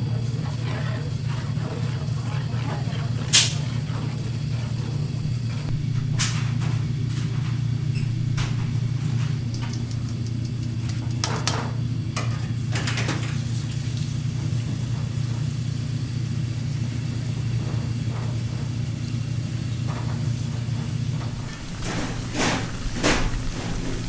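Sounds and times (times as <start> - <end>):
steady low hum: 0.0 - 12.6, 14.1 - 24.0.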